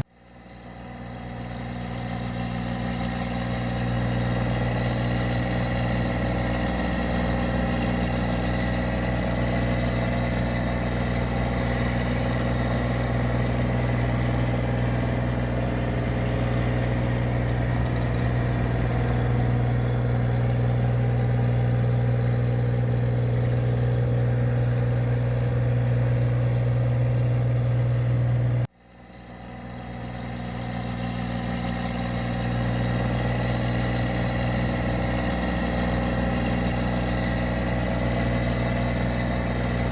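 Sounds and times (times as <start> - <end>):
machine engine running steadily: 0.2 - 39.9.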